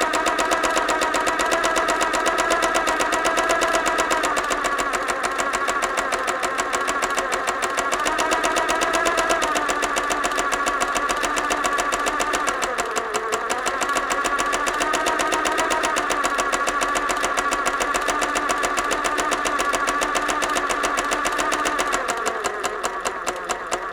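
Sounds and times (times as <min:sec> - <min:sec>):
sewing machine running: 0:00.0 - 0:23.9.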